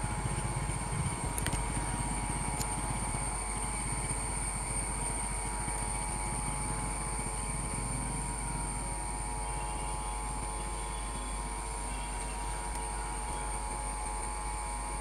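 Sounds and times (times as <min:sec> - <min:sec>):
locomotive low rumble: 0:00.0 - 0:15.0.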